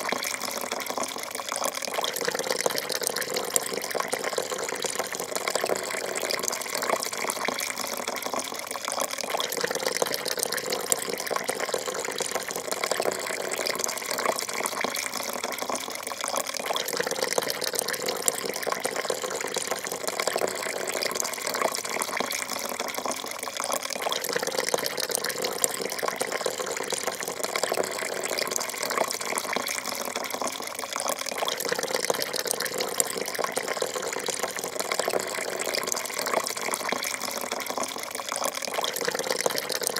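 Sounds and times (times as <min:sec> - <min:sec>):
coffee pouring into cup: 0:00.0 - 0:39.9.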